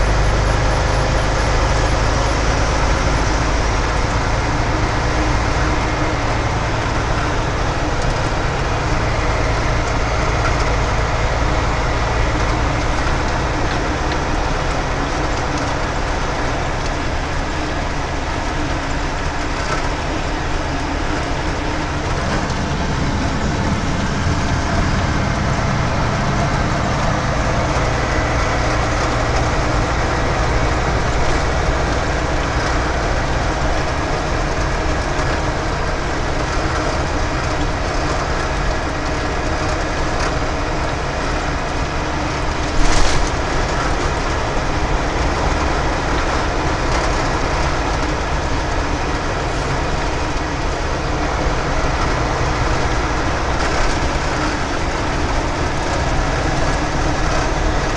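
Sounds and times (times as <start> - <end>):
road noise: 0.0 - 57.9
truck engine drone: 0.0 - 57.9.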